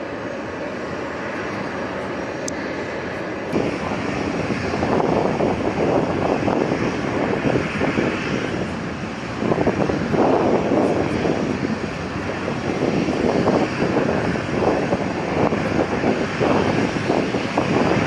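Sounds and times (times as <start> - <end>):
jet aircraft engine: 0.0 - 18.0.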